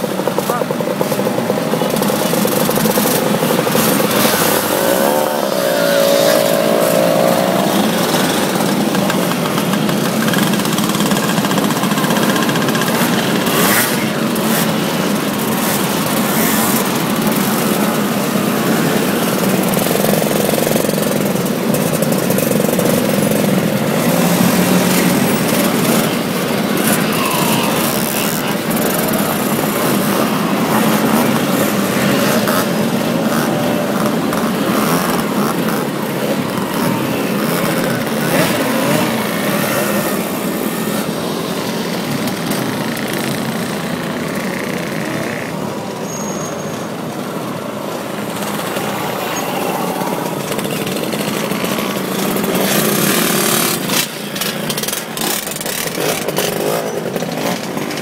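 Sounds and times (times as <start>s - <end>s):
motorcycles riding past: 0.0s - 46.0s, 46.6s - 58.0s.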